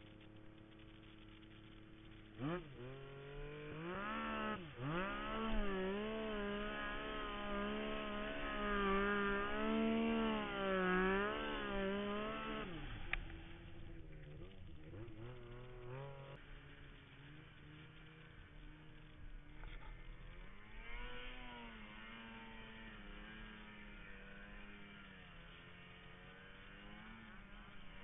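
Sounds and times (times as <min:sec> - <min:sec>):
snowmobile engine revving: 0:00.0 - 0:28.0.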